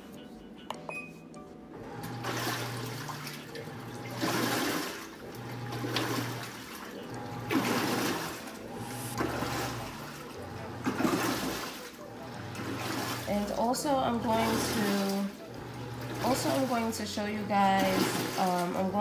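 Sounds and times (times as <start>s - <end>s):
low motor hum: 1.7s - 19.0s
water swishing in tub: 1.9s - 19.0s.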